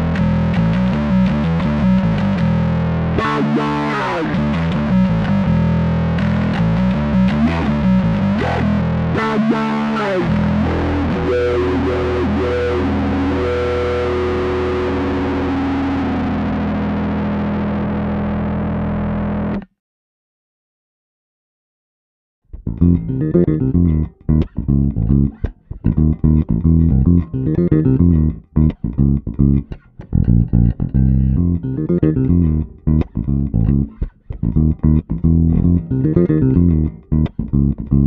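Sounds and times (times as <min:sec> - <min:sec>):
distorted wah bass: 0:00.0 - 0:19.6, 0:22.6 - 0:38.0.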